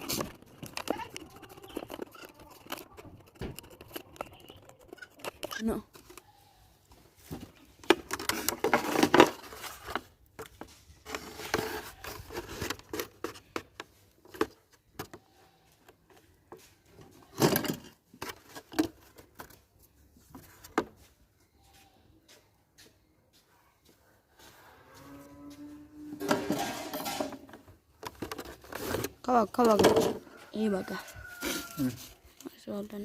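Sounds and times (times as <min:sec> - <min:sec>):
plastic bottle rustling and scraping: 0:00.0 - 0:21.2, 0:24.4 - 0:33.0.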